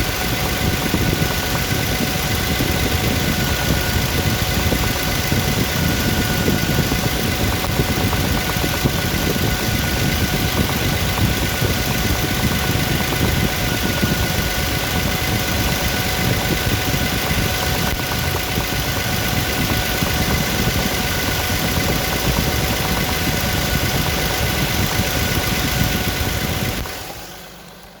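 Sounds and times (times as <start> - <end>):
car engine idling with knock: 0.0 - 28.0
steady whine: 0.0 - 28.0.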